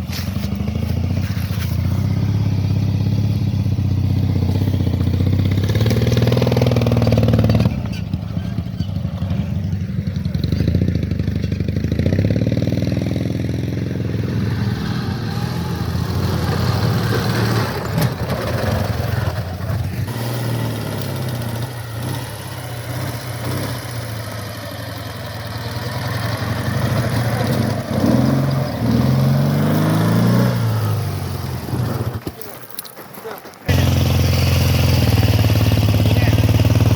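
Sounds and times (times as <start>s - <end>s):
motorcycle engine revving: 0.0s - 32.3s, 33.7s - 36.9s.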